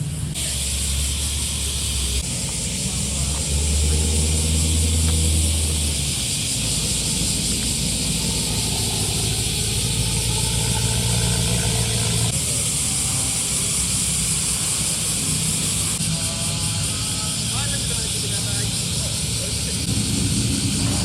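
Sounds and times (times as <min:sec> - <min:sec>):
car engine running at low revs: 0:00.0 - 0:16.1, 0:18.8 - 0:21.0
steady hiss: 0:00.0 - 0:21.0.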